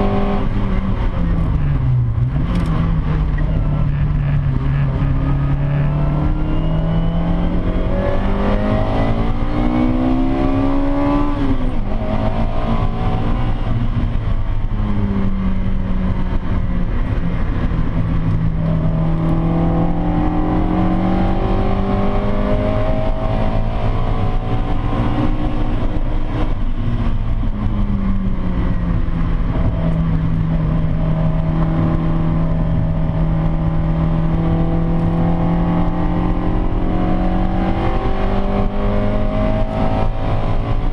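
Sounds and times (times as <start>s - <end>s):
car engine revving: 0.0s - 40.9s
road noise: 0.0s - 40.9s.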